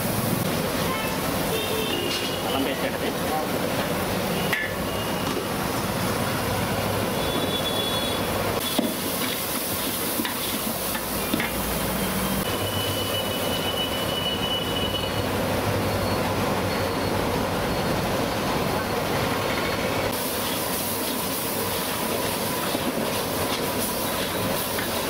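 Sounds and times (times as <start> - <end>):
onions sizzling in oil: 0.0 - 17.0, 19.0 - 25.0
gas burner noise: 0.0 - 25.0.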